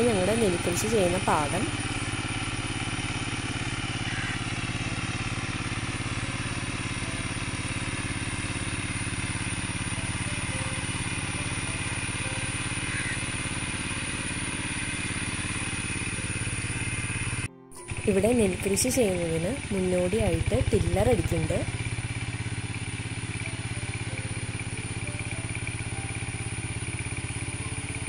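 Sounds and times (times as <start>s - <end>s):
tiller engine running under load: 0.0s - 28.0s.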